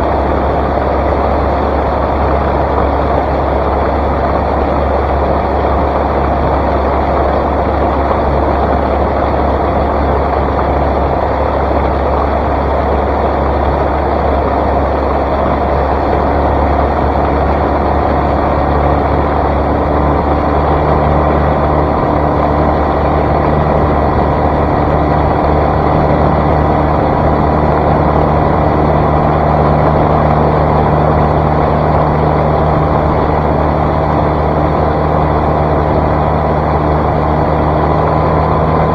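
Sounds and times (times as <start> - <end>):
outboard motor running: 0.0 - 38.9
rush of wind and water: 0.0 - 38.9.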